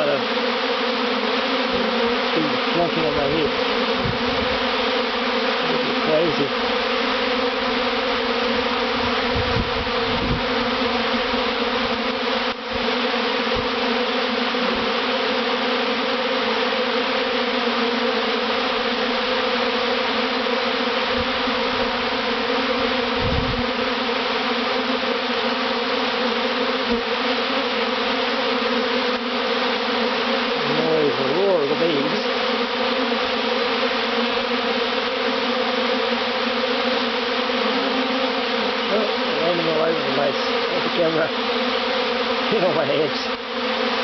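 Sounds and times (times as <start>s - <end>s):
bee swarm buzzing: 0.0s - 44.0s.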